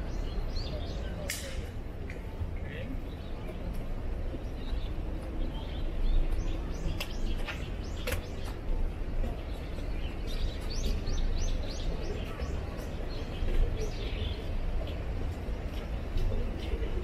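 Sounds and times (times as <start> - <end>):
birds chirping: 0.0 - 1.8, 2.6 - 17.0.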